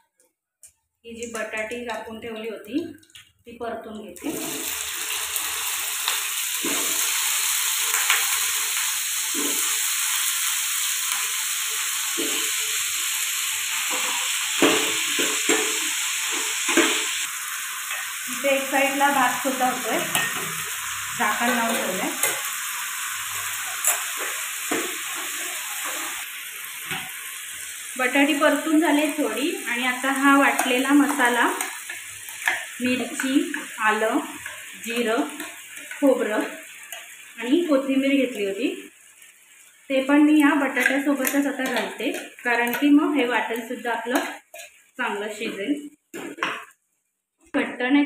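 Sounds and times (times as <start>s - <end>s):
potatoes sizzling in hot oil: 3.9s - 46.9s.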